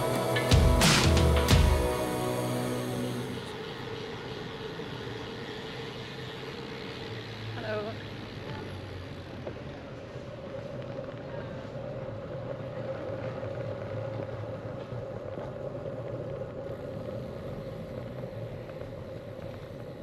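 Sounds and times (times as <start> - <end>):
constant hum: 0.0 - 20.0
bike tyres rolling on tarmac: 3.5 - 20.0.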